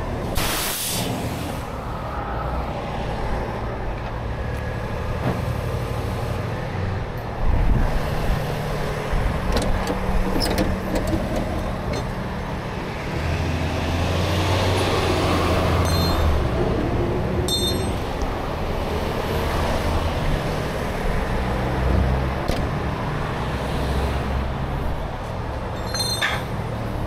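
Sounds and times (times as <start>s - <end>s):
truck engines idling: 0.0s - 27.0s.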